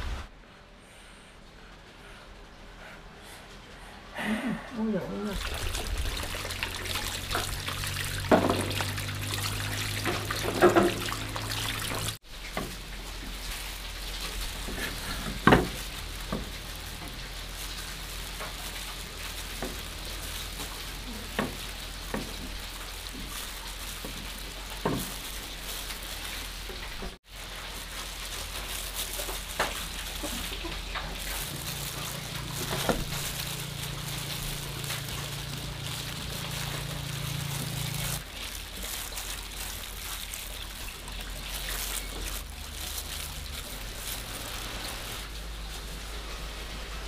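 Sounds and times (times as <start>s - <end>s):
plastic glove crinkling: 5.3s - 46.8s.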